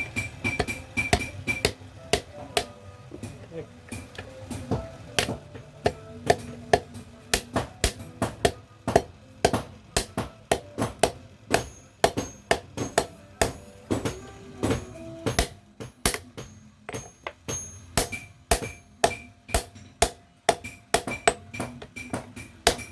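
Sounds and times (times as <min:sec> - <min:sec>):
hammer striking steel on anvil: 0:00.0 - 0:02.8, 0:03.9 - 0:22.9.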